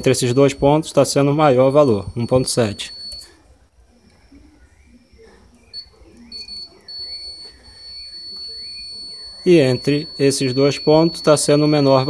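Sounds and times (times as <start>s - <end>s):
multimeter continuity beeping: 0.0s - 3.4s, 4.2s - 12.0s.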